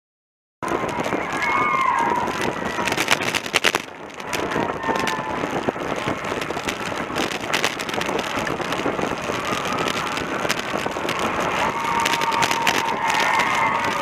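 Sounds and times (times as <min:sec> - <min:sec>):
wind and road rush: 0:00.6 - 0:14.0.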